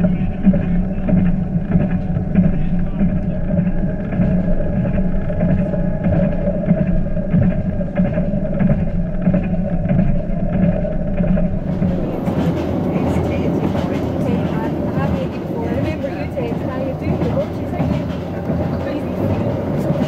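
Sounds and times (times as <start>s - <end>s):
steady higher tone: 0.0s - 19.9s
diesel train engine drone: 0.0s - 20.0s.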